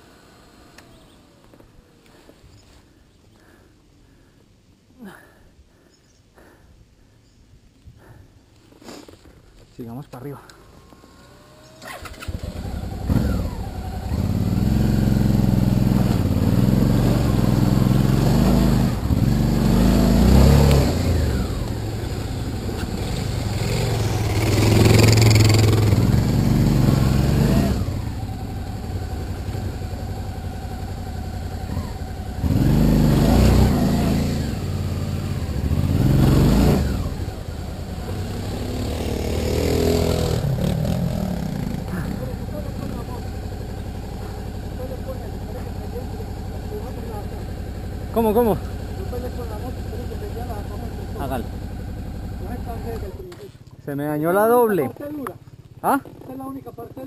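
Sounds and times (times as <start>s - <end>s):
motorcycle engine revving: 10.6s - 57.0s.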